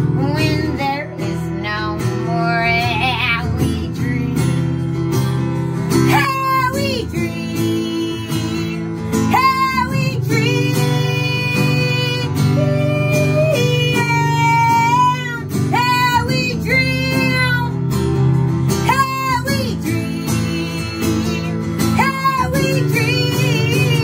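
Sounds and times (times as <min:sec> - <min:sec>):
woman singing: 0:00.0 - 0:04.8, 0:05.9 - 0:18.1, 0:18.7 - 0:24.0
strummed acoustic guitar: 0:00.0 - 0:24.0.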